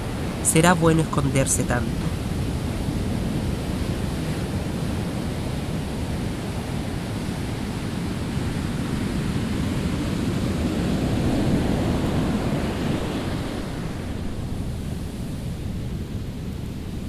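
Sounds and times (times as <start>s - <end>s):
ocean surf breaking on shore: 0.0s - 17.0s.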